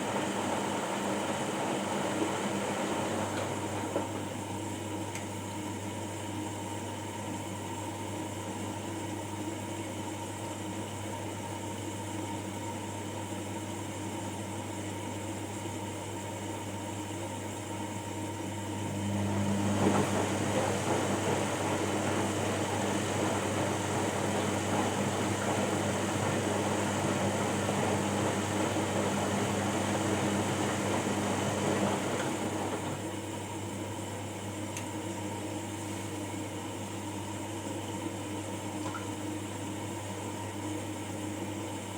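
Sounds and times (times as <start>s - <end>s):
washing machine humming: 0.0s - 41.9s.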